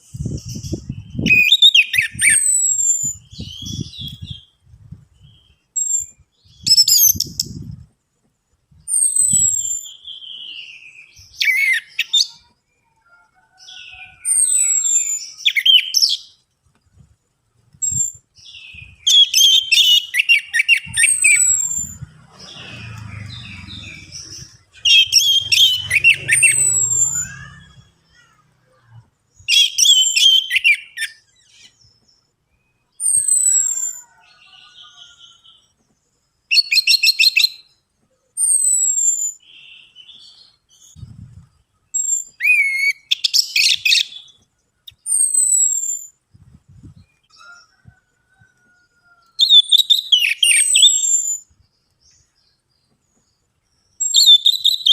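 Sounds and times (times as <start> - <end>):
thrush singing whistles and trills: 0.0 - 7.9, 8.7 - 16.4, 17.7 - 35.7, 36.5 - 37.8, 38.4 - 48.6, 49.2 - 52.7, 53.4 - 54.9.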